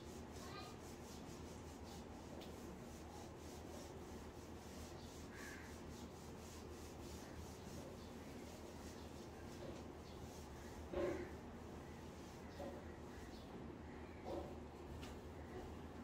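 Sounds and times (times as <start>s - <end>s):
duster rubbing a whiteboard: 0.0s - 13.5s.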